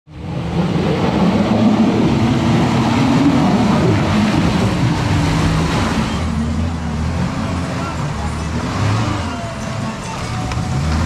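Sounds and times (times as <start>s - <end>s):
car engine running under load: 0.1s - 11.0s.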